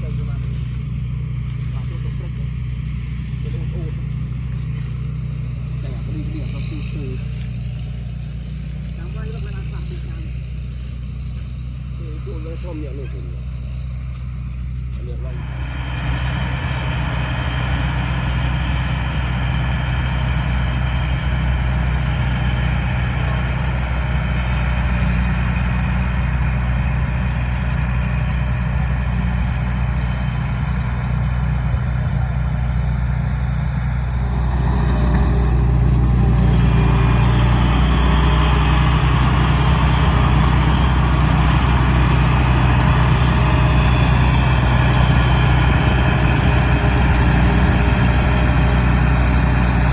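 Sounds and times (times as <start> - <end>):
combine harvester engine running: 0.0 - 49.9.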